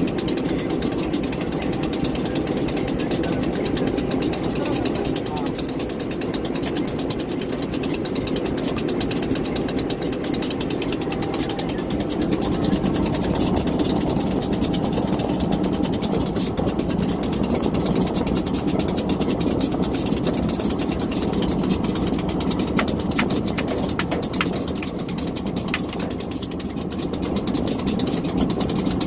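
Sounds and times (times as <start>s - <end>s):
diesel locomotive engine idling: 0.0s - 29.0s.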